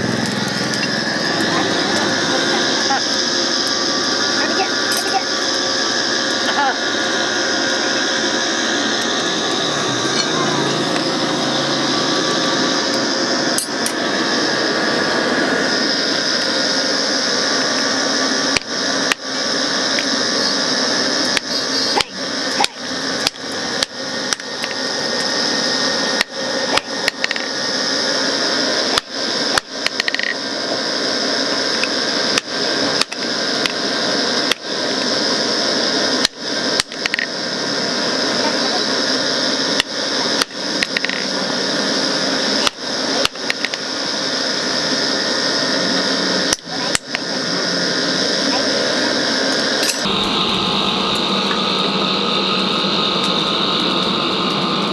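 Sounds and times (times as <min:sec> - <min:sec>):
steady background noise: 0:00.0 - 0:54.9.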